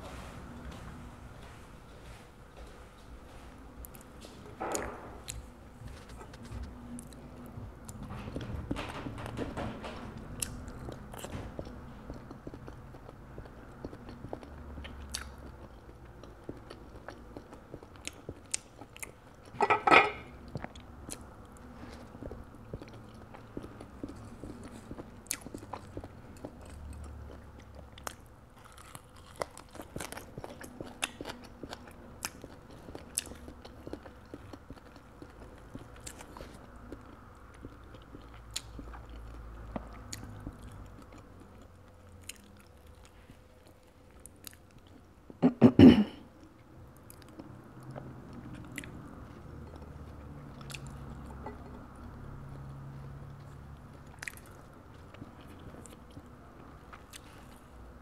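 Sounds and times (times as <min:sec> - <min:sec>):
person chewing: 0:10.4 - 0:45.5, 0:46.4 - 0:58.0.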